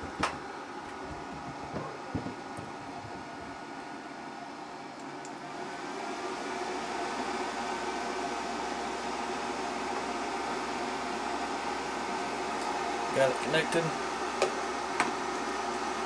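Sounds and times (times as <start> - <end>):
fan-like mechanical whir: 0.0 - 16.0.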